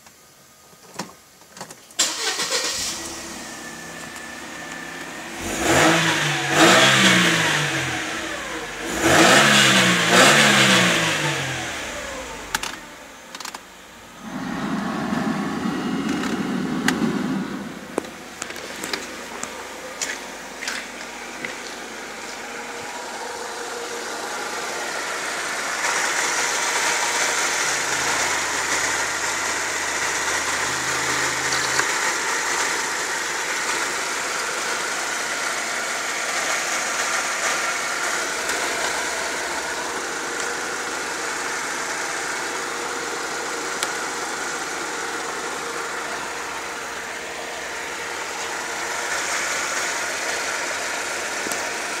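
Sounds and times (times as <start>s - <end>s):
car engine idling: 2.0s - 52.0s.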